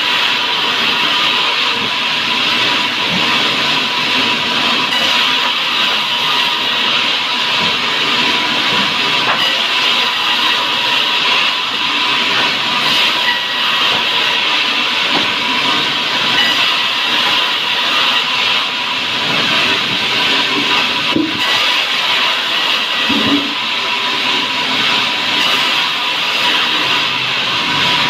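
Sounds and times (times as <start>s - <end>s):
power tool whining on wood: 0.2s - 28.0s.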